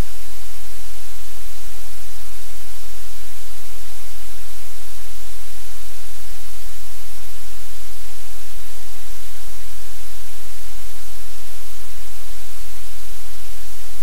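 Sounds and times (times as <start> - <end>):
static-like hiss: 0.0 - 14.0.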